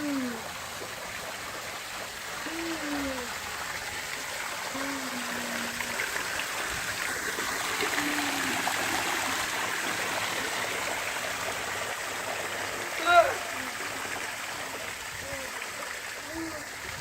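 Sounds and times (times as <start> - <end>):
waterfall splashing: 0.0 - 17.0.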